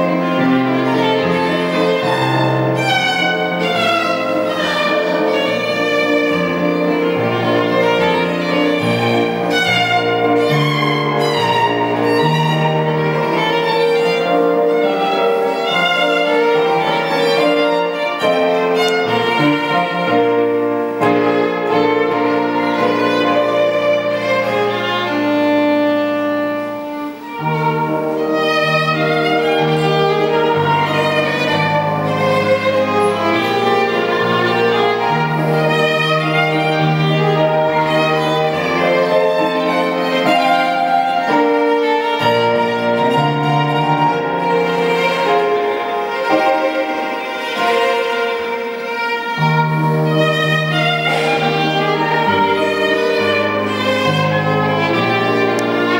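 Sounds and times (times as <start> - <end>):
violin melody: 0.0 - 55.9.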